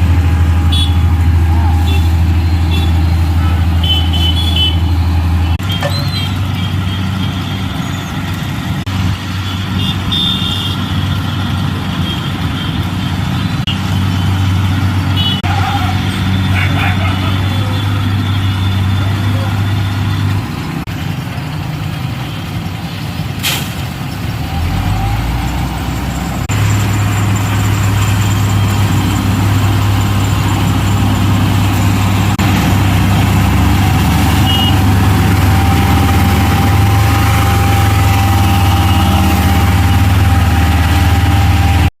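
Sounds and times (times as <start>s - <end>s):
heavy construction machinery engine: 0.0s - 41.9s.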